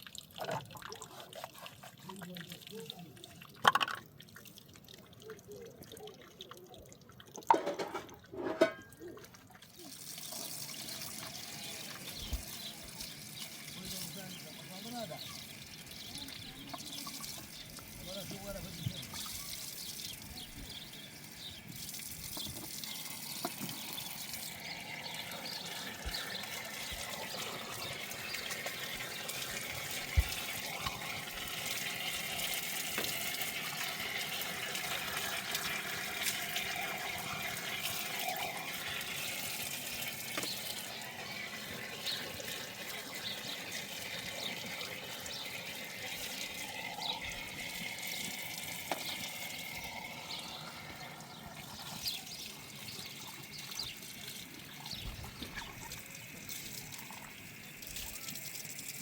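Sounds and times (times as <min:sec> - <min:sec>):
water running and splashing: 0:00.0 - 0:59.0.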